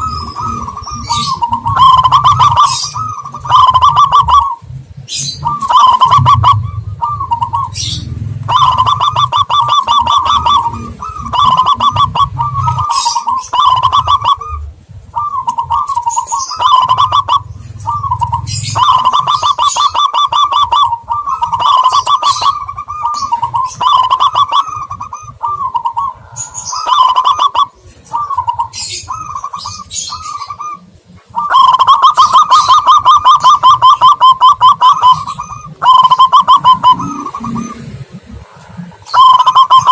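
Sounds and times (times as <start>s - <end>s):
doves cooing in rolling trills: 0.0s - 39.9s
high chirps of small birds: 0.0s - 39.9s.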